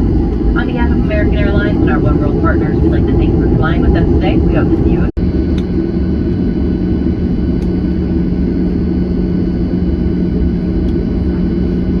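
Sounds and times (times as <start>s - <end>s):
constant low hum: 0.0s - 12.0s
jet engines rumbling: 0.0s - 12.0s.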